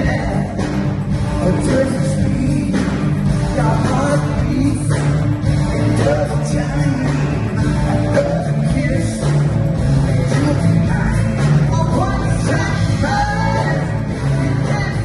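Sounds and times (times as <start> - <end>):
rock band playing: 0.0 - 15.0
person singing: 1.3 - 15.0.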